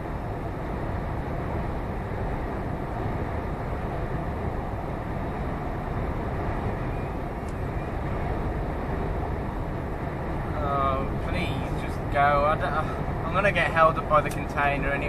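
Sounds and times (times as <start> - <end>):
lorry engine and road noise: 0.0 - 15.0.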